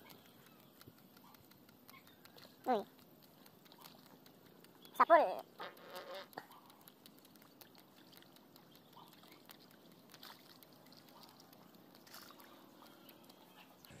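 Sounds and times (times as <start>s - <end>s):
small scattered ticks: 0.0s - 14.0s.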